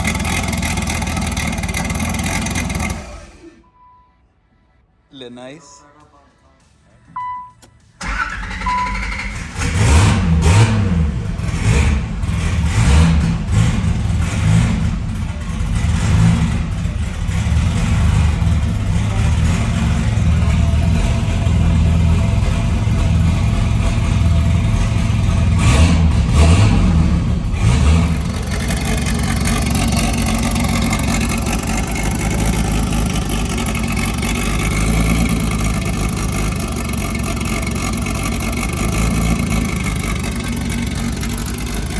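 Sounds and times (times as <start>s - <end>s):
turbocharged car engine revving: 0.0s - 3.6s, 8.0s - 41.9s.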